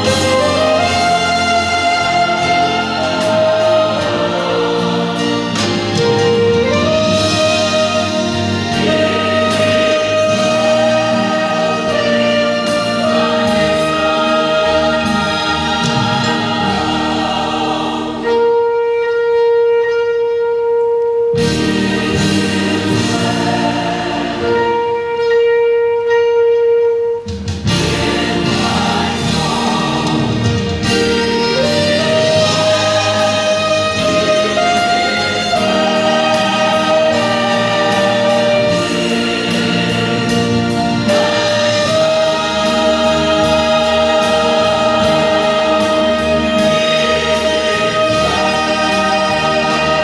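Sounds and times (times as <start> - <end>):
grand piano accompaniment: 0.0 - 50.0
saxophone slow melody: 0.0 - 50.0.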